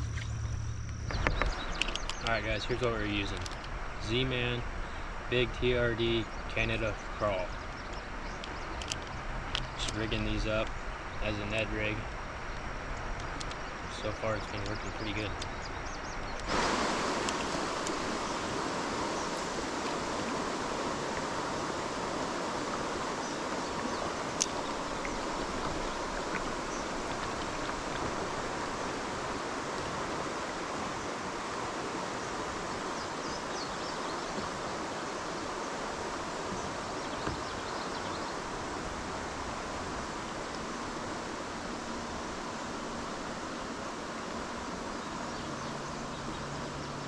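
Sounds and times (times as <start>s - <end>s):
river water rushing: 6.4s - 47.0s.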